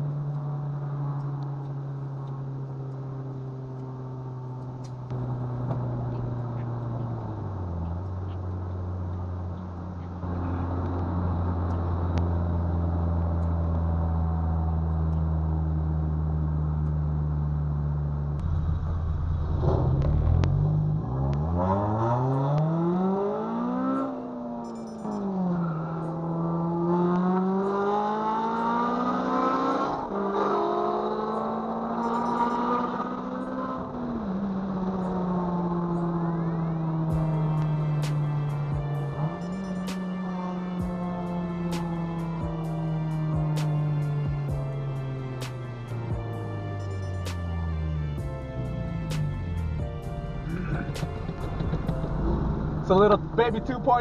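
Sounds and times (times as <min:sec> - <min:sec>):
car engine accelerating and shifting: 0:00.0 - 0:54.0.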